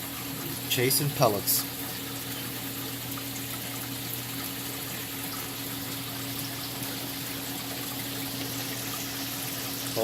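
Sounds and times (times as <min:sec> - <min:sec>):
aquarium pump hum: 0:00.0 - 0:10.0
water trickling and splashing: 0:00.0 - 0:10.0.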